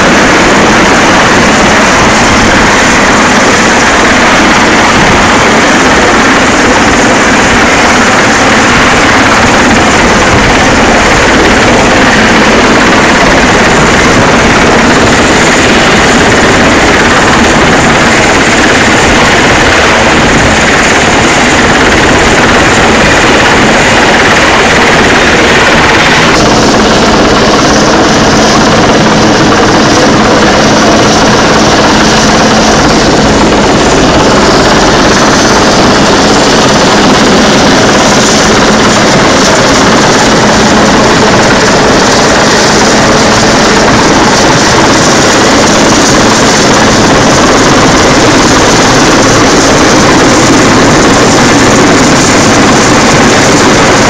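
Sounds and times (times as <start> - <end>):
helicopter hovering overhead: 0.0 - 54.0.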